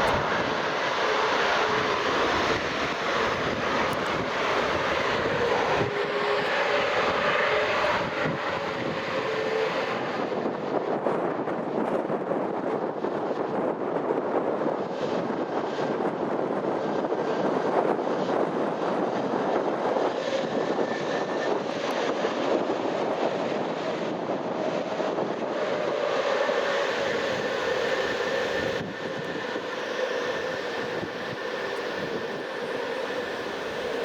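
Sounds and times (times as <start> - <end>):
aircraft engines whining: 0.0 - 34.0
wind on microphone: 0.0 - 34.0.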